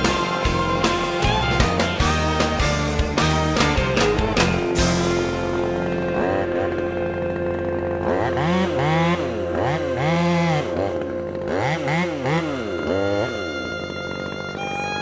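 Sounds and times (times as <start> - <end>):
chainsaw revving in bursts: 0.0 - 15.0.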